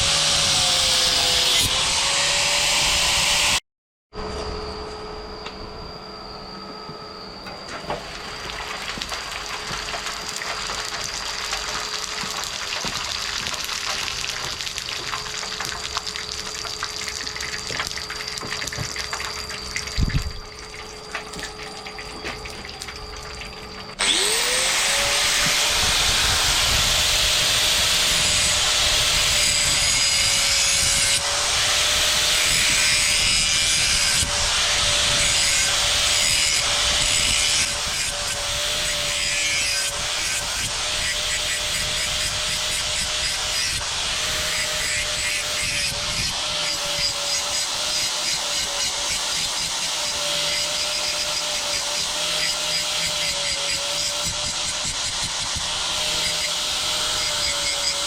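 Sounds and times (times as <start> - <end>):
electric power tool grinding: 0.0 - 3.6, 7.5 - 58.0.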